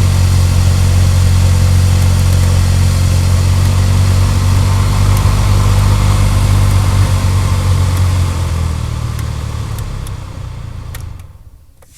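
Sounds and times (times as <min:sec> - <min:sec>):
heater blower motor humming: 0:00.0 - 0:11.9.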